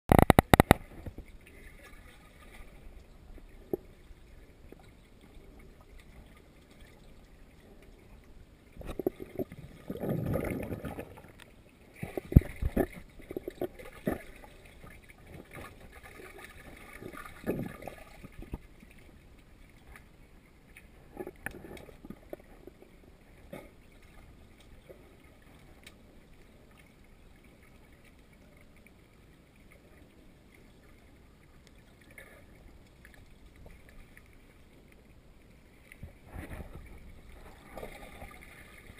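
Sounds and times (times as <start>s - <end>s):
muffled underwater wash: 0.1s - 38.9s
swirls of moving water: 0.1s - 38.9s.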